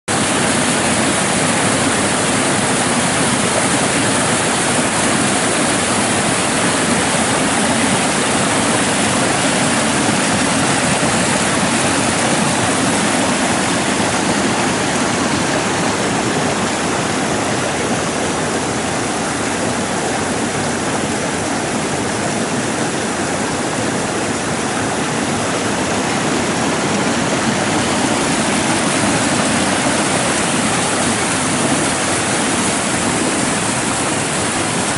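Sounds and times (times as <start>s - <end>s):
floodwater rushing over rocks: 0.1s - 34.9s.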